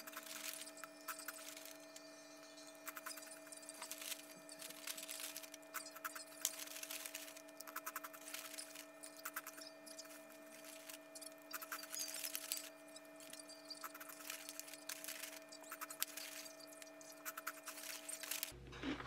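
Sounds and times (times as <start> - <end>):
foil pouch crackling: 0.0 - 1.8, 2.9 - 18.5
faint steady hum: 0.0 - 19.0.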